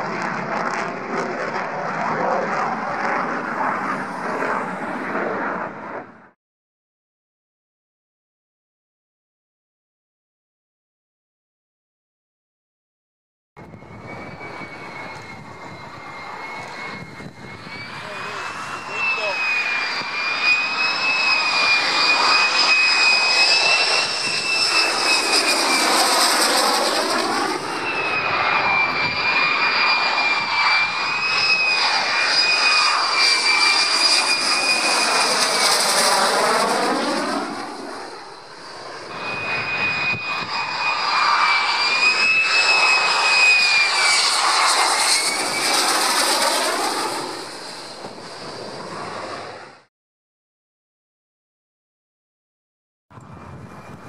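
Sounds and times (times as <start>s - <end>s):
jet roar with high whine: 0.0s - 6.4s, 13.6s - 49.9s, 53.1s - 54.0s.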